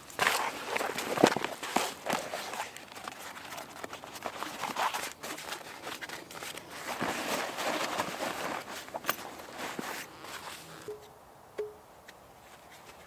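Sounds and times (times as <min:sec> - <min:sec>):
canvas rustling and rubbing: 0:00.0 - 0:10.9.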